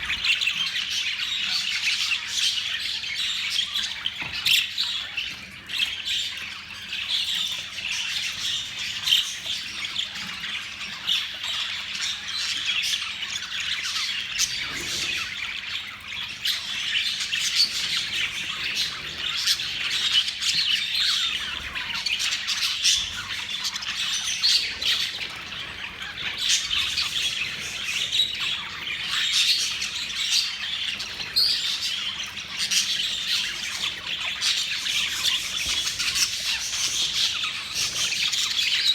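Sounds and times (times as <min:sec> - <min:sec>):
flock of budgerigars chattering: 0:00.0 - 0:38.9.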